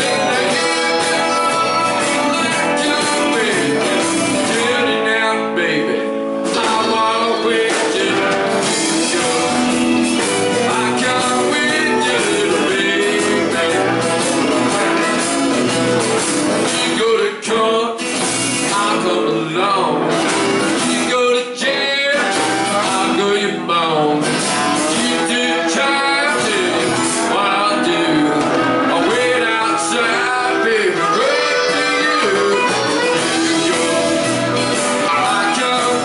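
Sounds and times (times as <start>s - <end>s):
man singing lead: 0.0s - 15.6s, 16.5s - 36.0s
live rock band playing: 0.0s - 36.0s.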